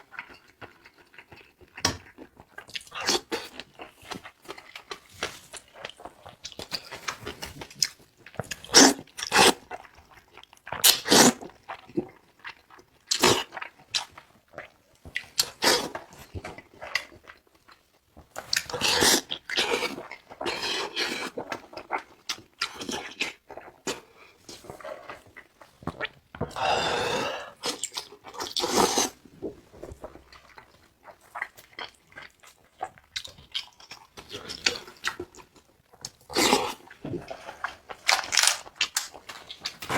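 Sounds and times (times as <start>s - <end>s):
person chewing with wet smacks: 0.0s - 26.6s, 27.5s - 39.9s.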